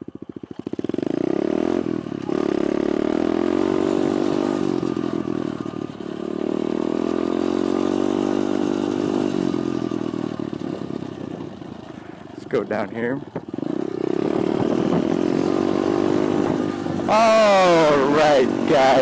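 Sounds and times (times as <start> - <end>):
pit bike engine revving: 0.1 - 19.0.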